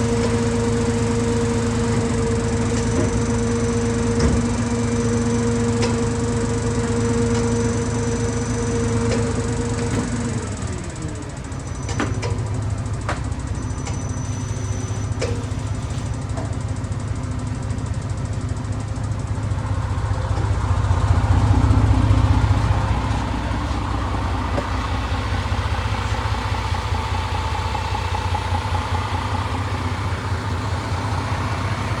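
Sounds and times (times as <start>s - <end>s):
truck engine running at low revs: 0.0s - 32.0s.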